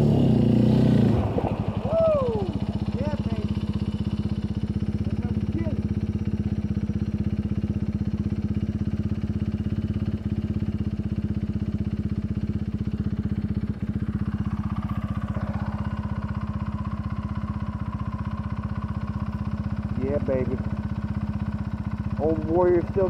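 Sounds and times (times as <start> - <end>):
atv engine idling: 0.0 - 23.0.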